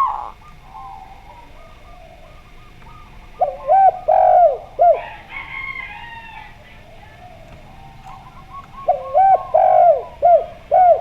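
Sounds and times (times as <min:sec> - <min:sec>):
doves cooing: 0:00.0 - 0:11.0.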